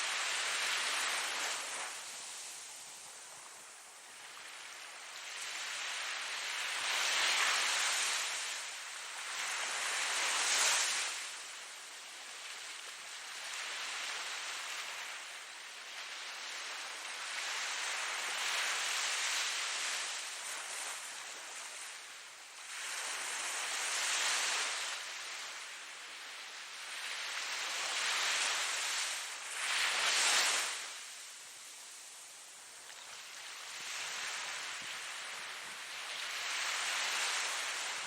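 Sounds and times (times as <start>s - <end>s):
ocean waves washing onto shore: 0.0s - 38.0s.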